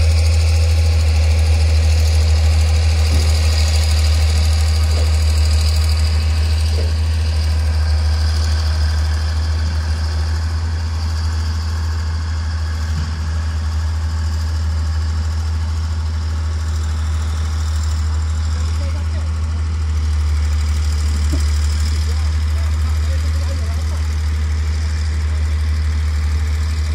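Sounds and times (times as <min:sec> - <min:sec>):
vehicle engine idling: 0:00.0 - 0:26.9.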